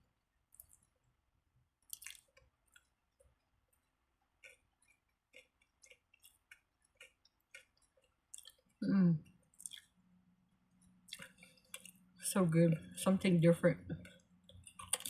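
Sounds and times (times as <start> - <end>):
person chewing a sandwich: 0.3 - 12.2, 14.0 - 15.0.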